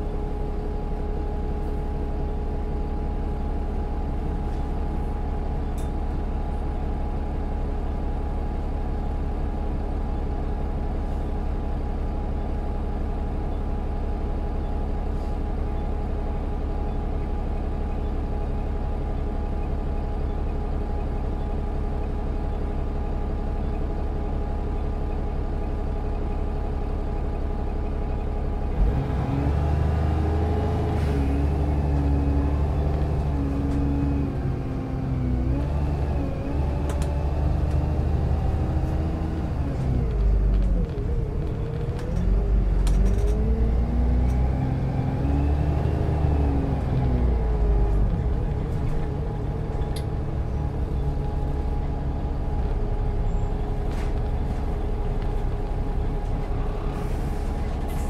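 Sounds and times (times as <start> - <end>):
bus engine rumbling with whine: 0.0 - 58.0.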